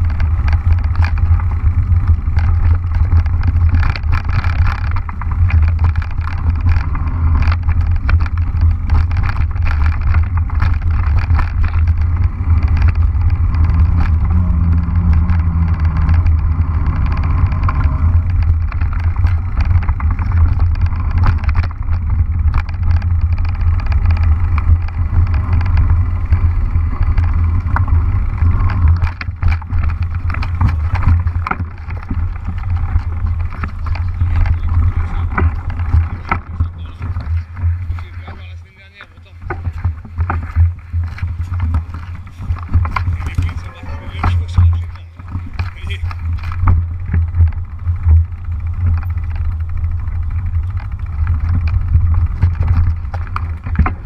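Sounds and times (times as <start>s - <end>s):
bike tyres on dirt trail: 0.0s - 54.0s
rattling clicks from bumps: 0.0s - 54.0s
wind rumble on microphone: 0.0s - 54.0s.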